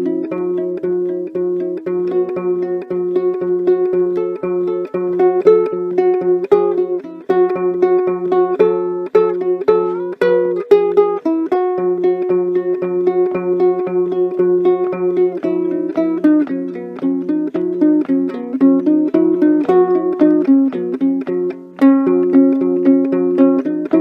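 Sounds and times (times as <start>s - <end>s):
plucked ukulele melody: 0.0s - 24.0s.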